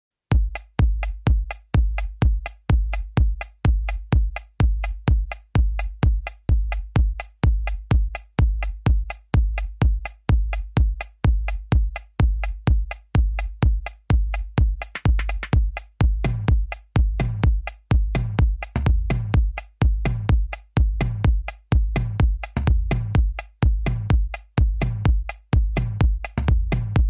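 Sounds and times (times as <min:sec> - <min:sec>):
electronic dance music: 0:00.3 - 0:27.0.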